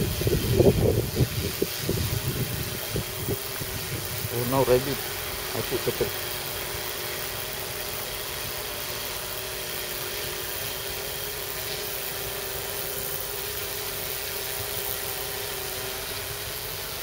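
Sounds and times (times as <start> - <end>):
drone propellers humming: 0.0 - 17.0
rushing hiss: 0.0 - 17.0.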